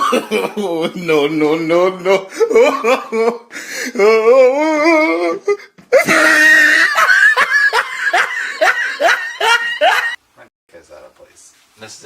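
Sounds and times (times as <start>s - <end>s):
person laughing hard: 0.0s - 10.2s.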